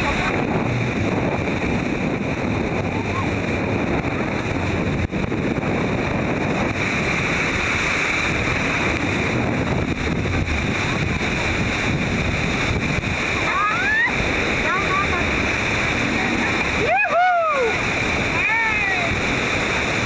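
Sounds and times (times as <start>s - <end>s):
churning whitewater roar: 0.0s - 20.0s
wind buffeting microphone: 0.0s - 20.0s.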